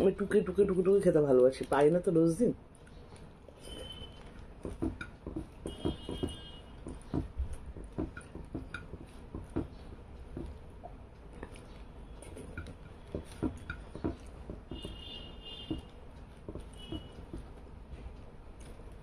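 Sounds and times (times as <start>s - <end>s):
wet chewing: 1.4s - 19.0s.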